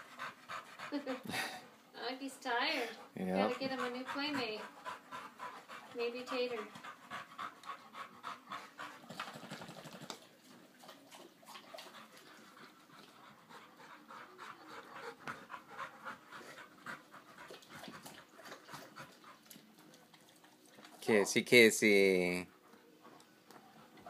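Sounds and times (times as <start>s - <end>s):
puppy panting: 0.0s - 21.4s, 22.4s - 24.0s.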